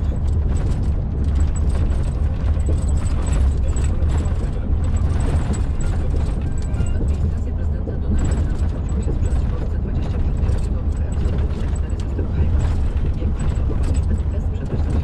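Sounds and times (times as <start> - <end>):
truck engine and tyres drone: 0.0 - 15.0.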